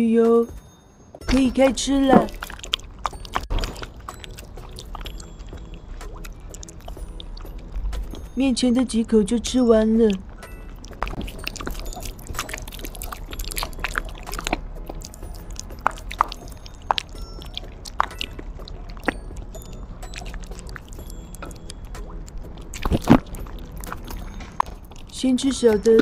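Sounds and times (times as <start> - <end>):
dog licking and chewing: 1.3 - 8.4, 9.9 - 26.0.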